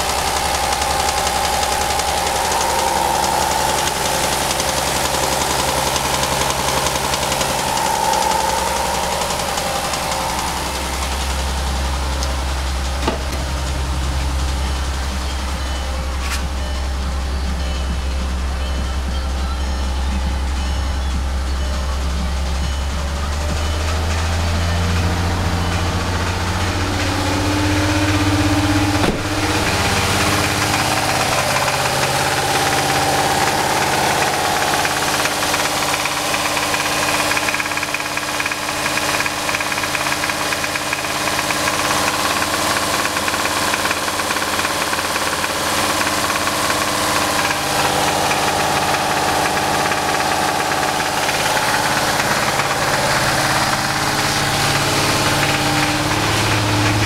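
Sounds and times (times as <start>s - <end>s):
car engine running with knock: 0.0s - 57.0s.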